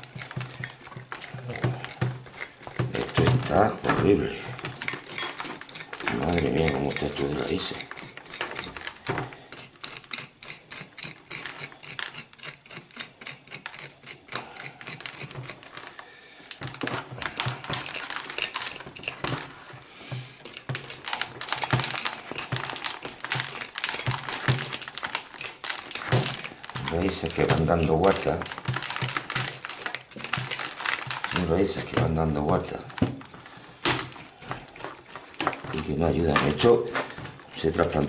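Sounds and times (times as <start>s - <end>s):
hand tool raking through soil: 0.0s - 16.0s, 16.6s - 38.0s.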